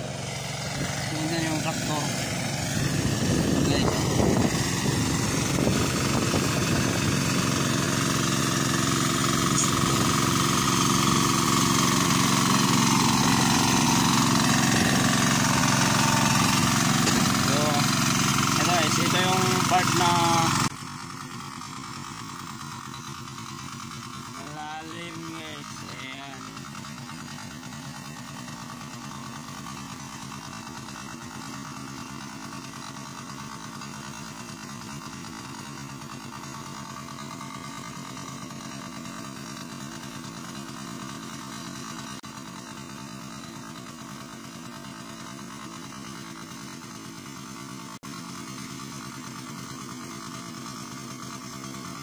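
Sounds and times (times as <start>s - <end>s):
tiller engine running under load: 0.0s - 52.0s.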